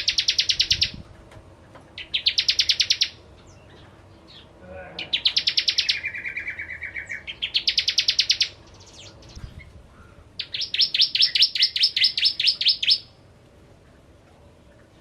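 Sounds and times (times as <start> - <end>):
bird singing fast trills: 0.0 - 1.1, 2.0 - 13.2.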